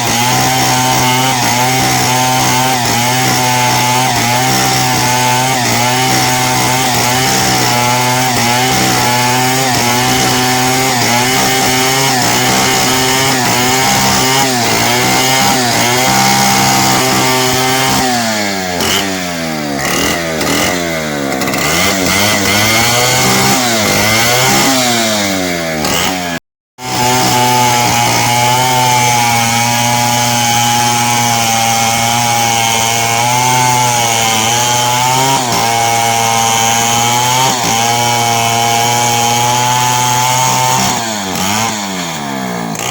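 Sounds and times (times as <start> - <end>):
chainsaw cutting timber: 0.0 - 42.9.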